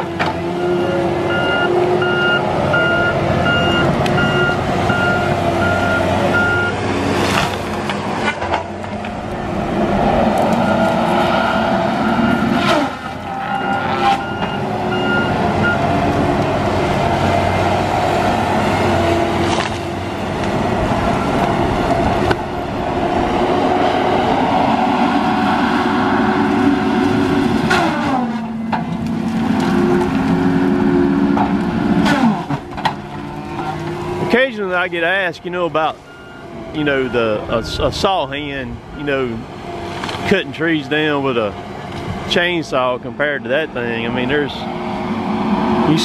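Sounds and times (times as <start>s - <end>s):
diesel engine and hydraulics: 0.0s - 46.0s.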